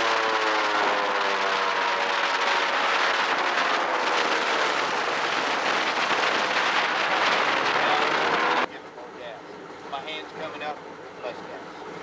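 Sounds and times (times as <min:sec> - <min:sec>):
airboat engine and propeller: 0:00.0 - 0:12.0.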